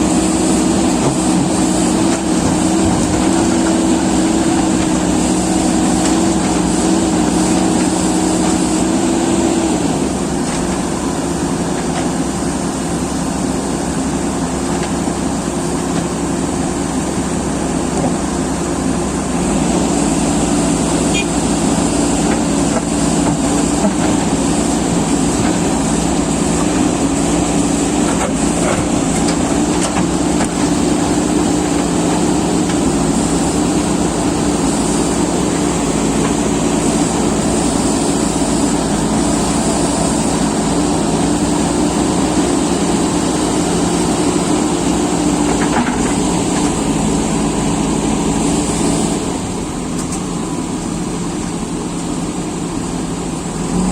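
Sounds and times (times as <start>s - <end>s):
excavator diesel engine droning: 0.0s - 53.9s.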